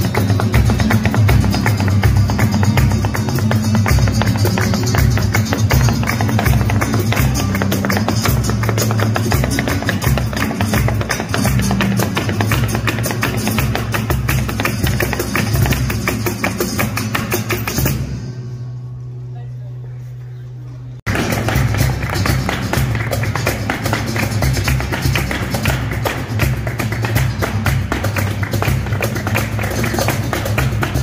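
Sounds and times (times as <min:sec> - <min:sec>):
rapid percussive taps: 0:00.0 - 0:18.0, 0:21.1 - 0:31.0
acoustic guitar playing: 0:00.0 - 0:19.3, 0:21.1 - 0:31.0.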